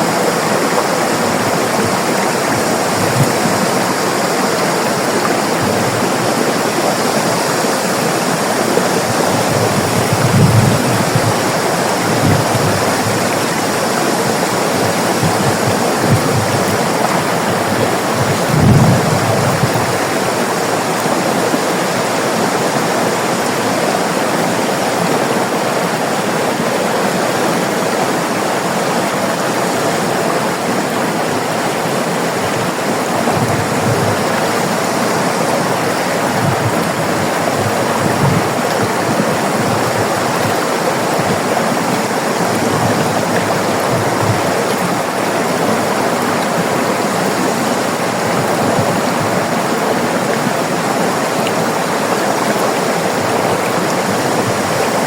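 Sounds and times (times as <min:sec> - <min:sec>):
low water thumps: 0:00.0 - 0:21.8, 0:32.3 - 0:55.0
river water rushing over rocks: 0:00.0 - 0:55.0.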